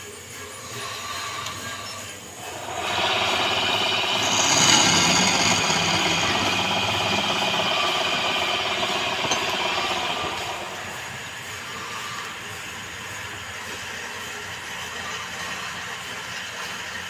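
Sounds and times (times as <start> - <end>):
lathe motor hum: 0.0 - 17.0
lathe tool cutting wood: 0.7 - 17.0.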